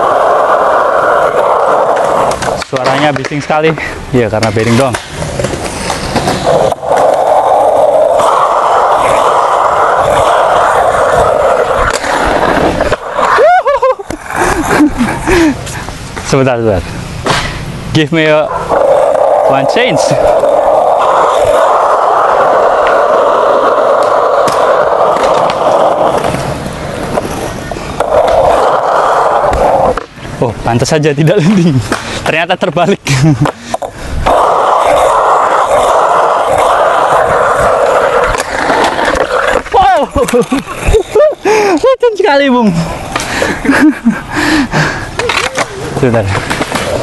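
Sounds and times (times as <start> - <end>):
skateboard bearings rolling on concrete: 0.0 - 47.0.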